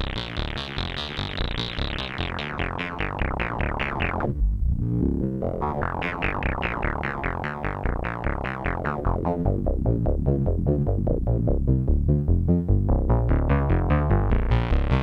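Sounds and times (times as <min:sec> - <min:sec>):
plucky synth notes: 0:00.0 - 0:15.0.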